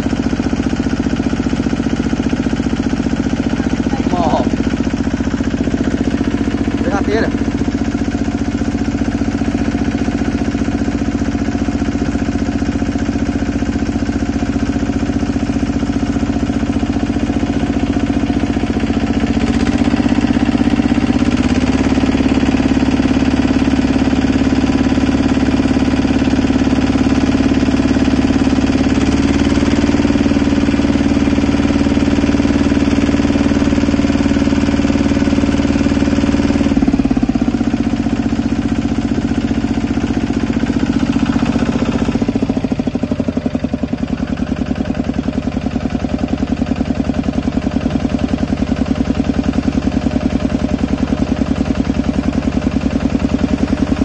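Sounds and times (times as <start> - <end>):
small water pump engine running: 0.0 - 54.0.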